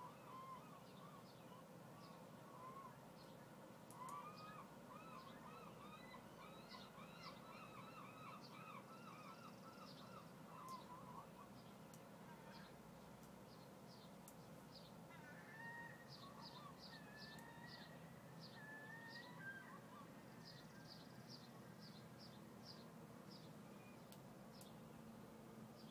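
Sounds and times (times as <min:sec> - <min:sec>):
birds calling faintly: 0:00.0 - 0:25.9.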